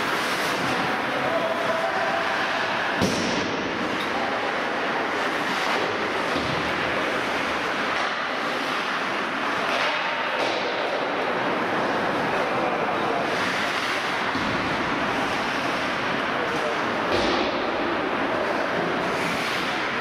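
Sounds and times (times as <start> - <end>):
skates scraping on ice: 0.0 - 20.0.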